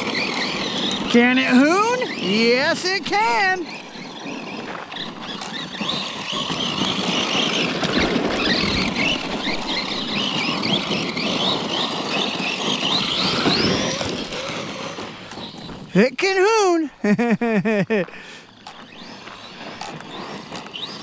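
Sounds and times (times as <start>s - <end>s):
electric rc truck whining: 0.0s - 21.0s
tyres sliding on gravel: 0.0s - 21.0s.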